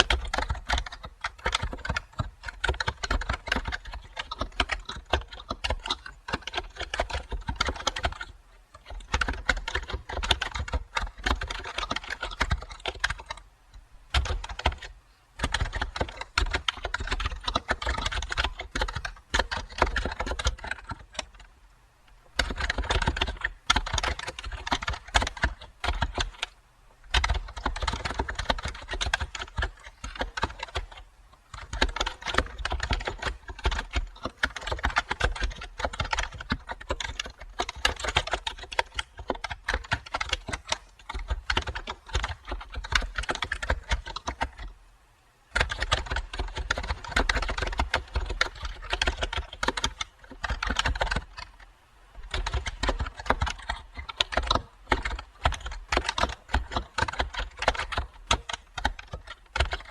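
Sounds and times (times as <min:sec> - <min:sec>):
typing on keyboard: 0:00.0 - 0:21.5, 0:22.2 - 0:44.7, 0:45.5 - 0:59.9.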